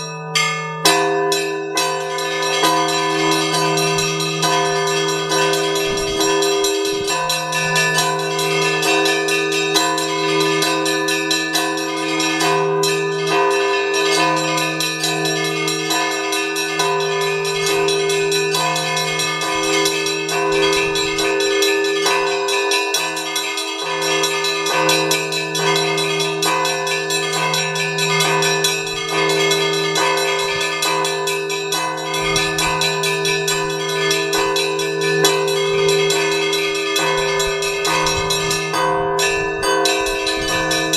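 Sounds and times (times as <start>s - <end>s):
low bell hum: 0.0s - 40.9s
small church bells striking: 0.0s - 40.9s.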